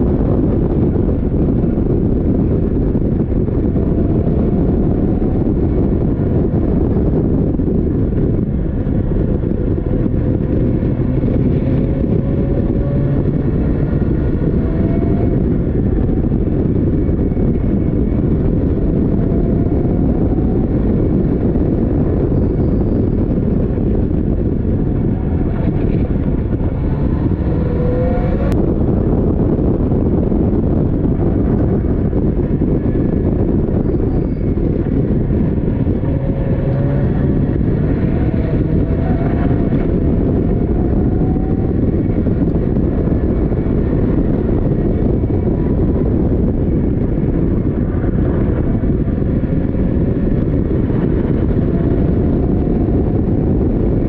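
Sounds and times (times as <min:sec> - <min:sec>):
wind buffeting on microphone: 0:00.0 - 0:54.0
race car engine accelerating: 0:00.1 - 0:54.0.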